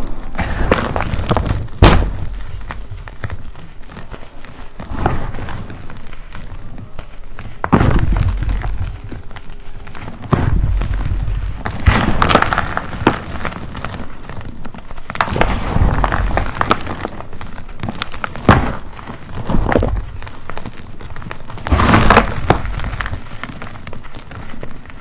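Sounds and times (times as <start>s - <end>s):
falling powder and crumbs: 0.0s - 25.0s
hands crushing chalk: 0.0s - 25.0s.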